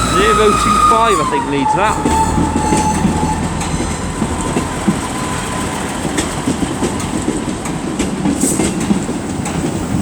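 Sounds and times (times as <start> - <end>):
train rumbling: 0.0 - 10.0
wheels clicking over rail joints: 0.0 - 10.0.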